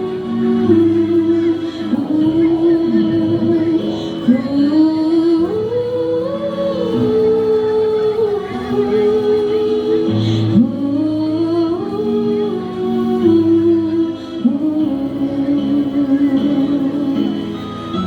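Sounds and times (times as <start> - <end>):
choir singing slow melody: 0.0 - 18.0.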